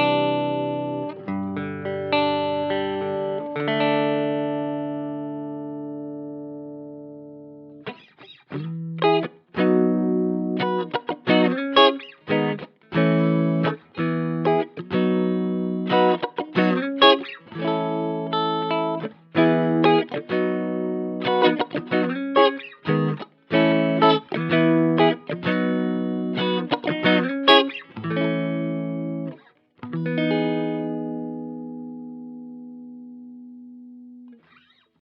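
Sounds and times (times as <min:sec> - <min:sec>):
guitar strummed chords: 0:00.0 - 0:34.8.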